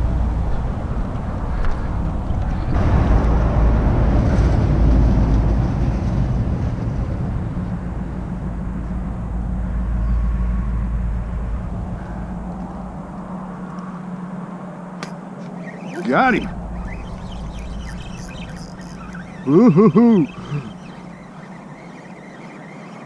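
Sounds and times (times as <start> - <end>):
passing motor engine rumble: 0.0 - 23.0.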